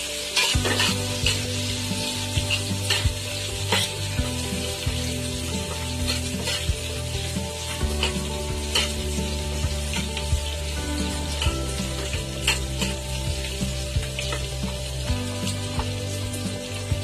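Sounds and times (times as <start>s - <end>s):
onions sizzling in oil: 0.0s - 17.0s
utensil scraping a pan: 0.1s - 15.0s.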